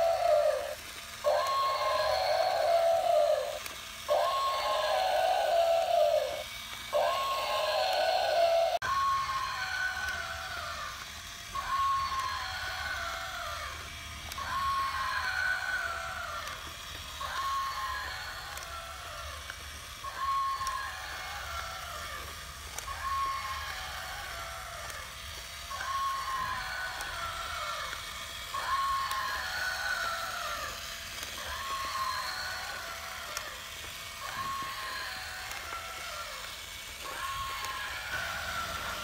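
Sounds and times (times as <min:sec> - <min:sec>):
electronic animal call: 0:00.0 - 0:39.0
toy motor and gears running: 0:00.0 - 0:39.0.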